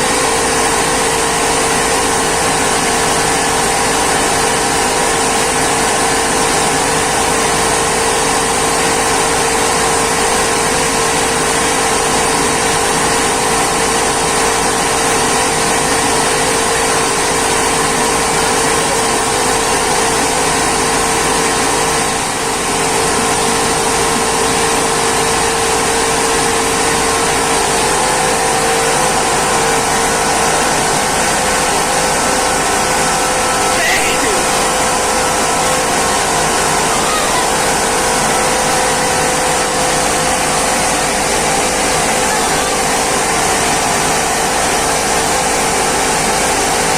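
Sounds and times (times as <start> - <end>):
rice mill machinery drone: 0.0 - 46.9.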